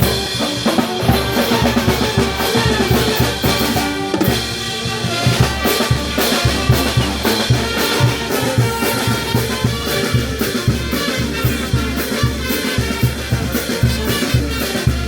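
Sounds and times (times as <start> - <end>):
brass band playing: 0.0 - 15.0
drum kit beat: 0.0 - 15.0.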